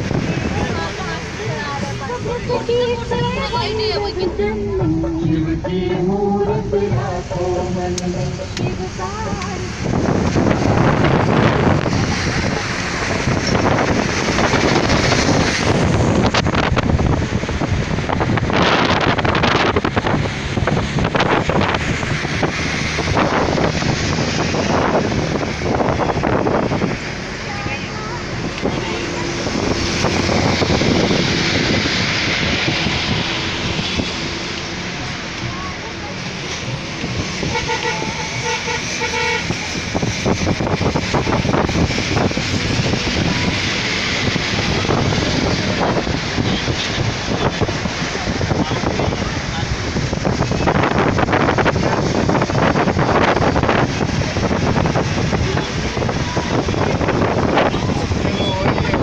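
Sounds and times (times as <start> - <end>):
vehicle rumbling and rattling: 0.0 - 59.0
wind buffeting microphone: 0.0 - 59.0.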